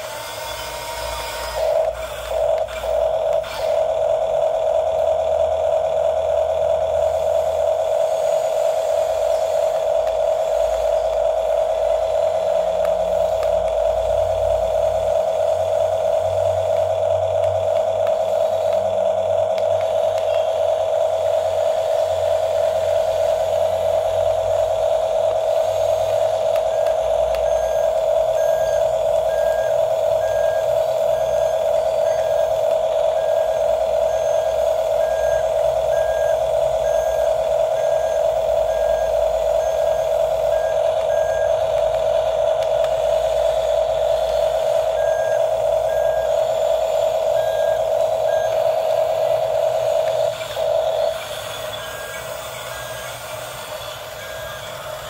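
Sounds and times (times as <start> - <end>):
toy electric motors whining: 0.0 - 55.0.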